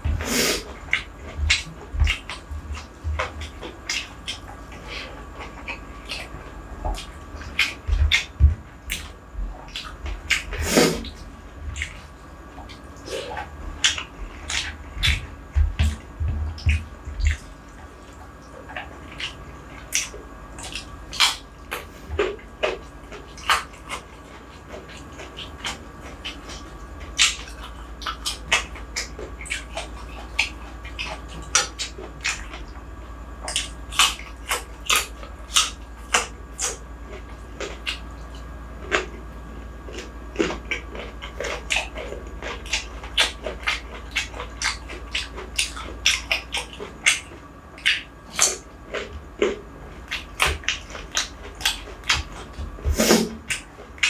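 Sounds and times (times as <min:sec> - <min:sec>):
wet chewing: 0:00.0 - 0:54.0.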